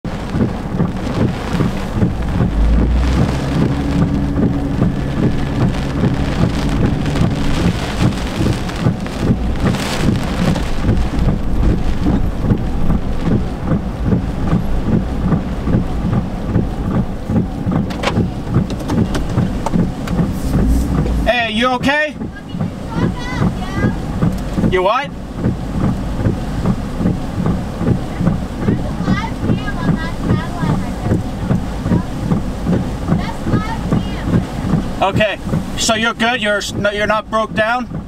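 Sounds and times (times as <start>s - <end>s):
heavy rain: 0.0s - 38.0s
hurricane wind: 0.0s - 38.0s.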